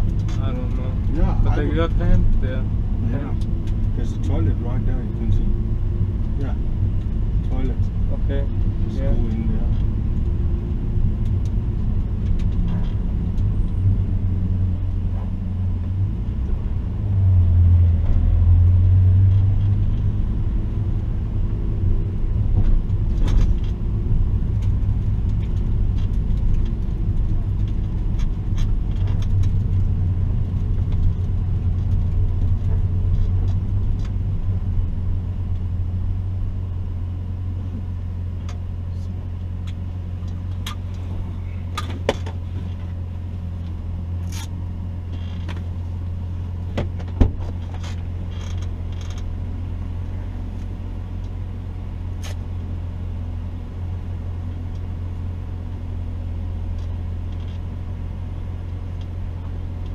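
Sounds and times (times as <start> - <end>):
car engine low hum: 0.0 - 59.9.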